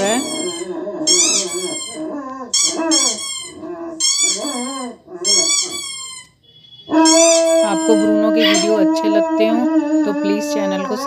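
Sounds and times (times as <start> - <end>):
dog howling and whining: 0.0 - 6.0, 6.9 - 11.0
squeaky toy squeaking: 0.0 - 9.0.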